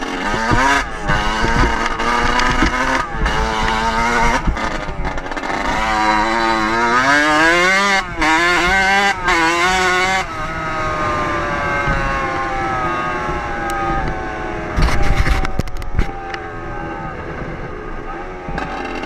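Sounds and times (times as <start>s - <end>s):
wind buffeting microphone: 0.0s - 18.8s
dirt bike engine revving: 0.0s - 19.0s.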